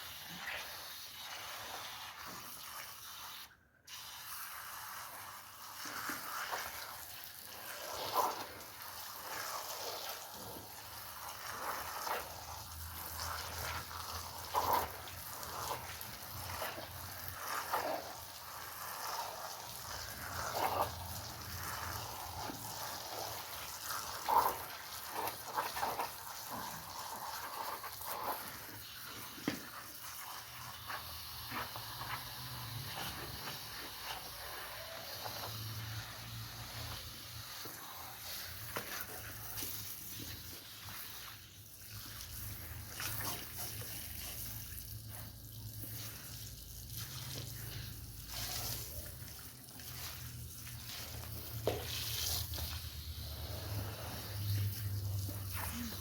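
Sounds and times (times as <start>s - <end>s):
water spraying on a wet rug: 0.0s - 56.0s.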